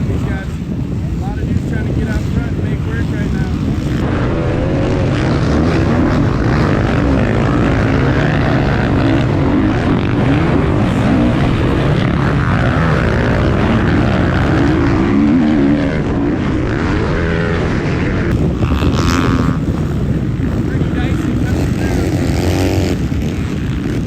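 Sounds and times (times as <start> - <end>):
dirt bikes revving: 0.0 - 24.0.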